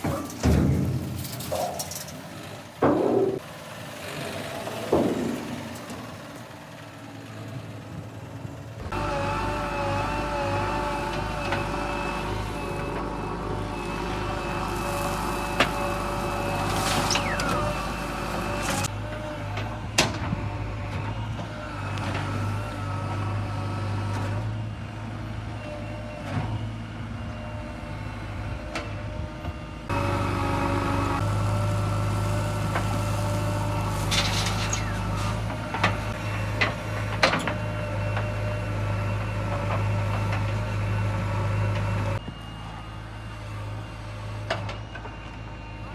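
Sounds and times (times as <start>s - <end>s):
heavy machine engine running: 2.1s - 45.9s.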